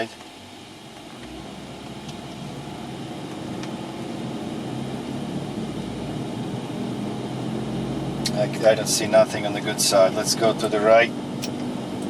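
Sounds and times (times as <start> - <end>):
road and tyre rumble inside car: 0.0 - 12.0.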